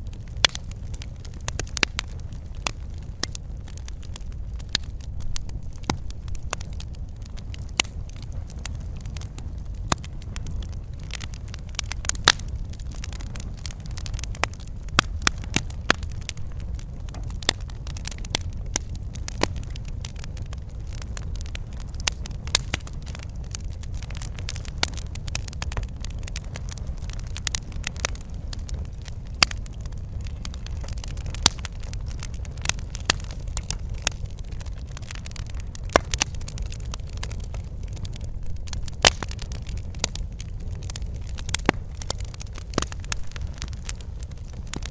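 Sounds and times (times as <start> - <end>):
low rumble of burning: 0.0 - 44.9
wood fire crackling and popping: 0.0 - 44.9.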